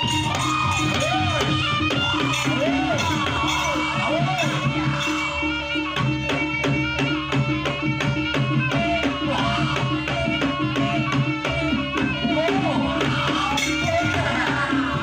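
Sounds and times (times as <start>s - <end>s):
gong and metal percussion tones: 0.0s - 15.0s
hand drum beating fast: 0.0s - 15.0s.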